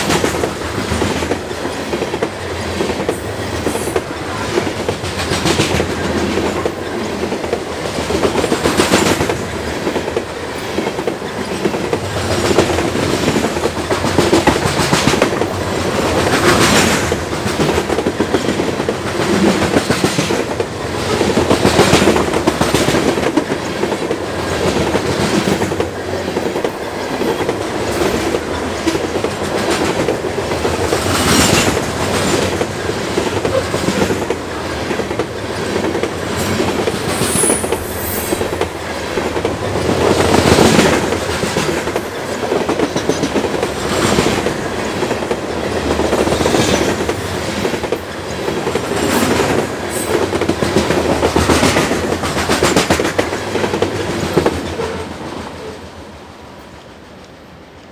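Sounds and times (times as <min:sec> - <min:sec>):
train wheels clacking on rails: 0:00.0 - 0:55.9.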